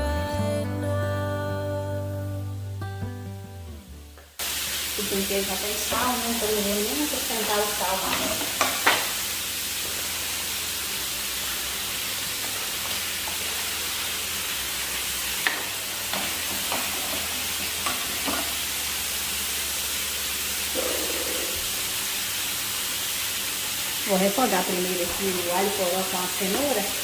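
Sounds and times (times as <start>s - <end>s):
food sizzling in a pan: 4.4s - 27.0s.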